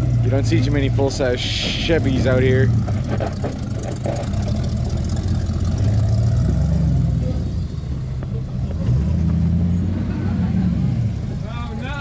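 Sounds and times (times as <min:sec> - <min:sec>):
truck engine revving unevenly: 0:00.0 - 0:12.0.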